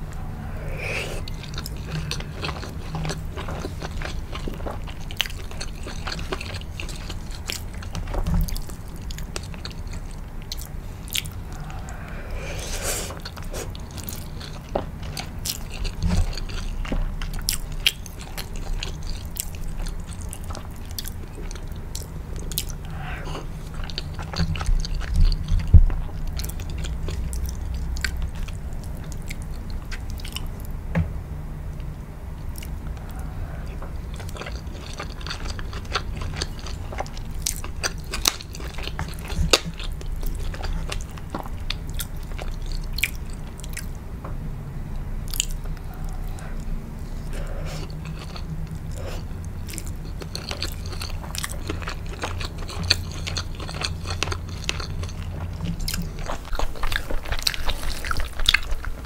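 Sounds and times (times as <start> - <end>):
chewing food: 0.0 - 30.7, 31.8 - 44.0, 45.3 - 59.0
steady low hum: 0.0 - 59.0.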